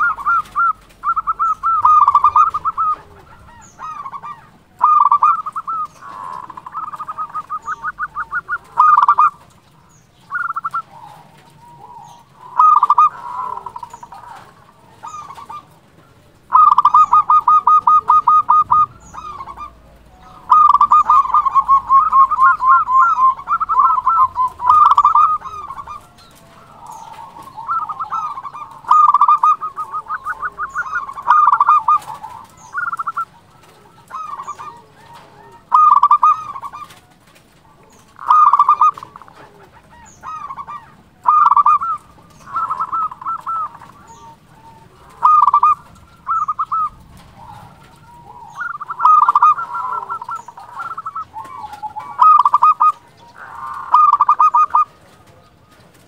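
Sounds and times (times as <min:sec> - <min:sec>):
dove cooing in trilled phrases: 0:00.0 - 0:56.0.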